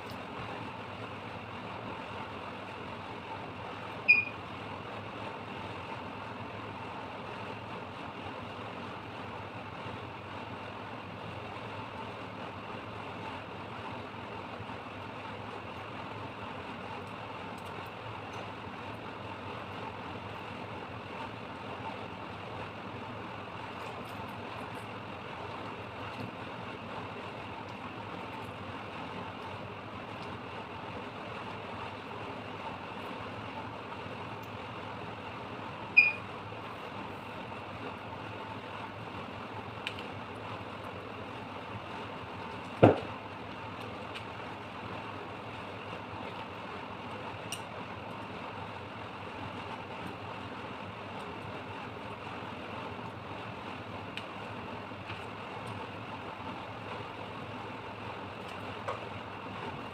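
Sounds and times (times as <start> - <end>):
background hum and hiss: 0.0 - 59.9.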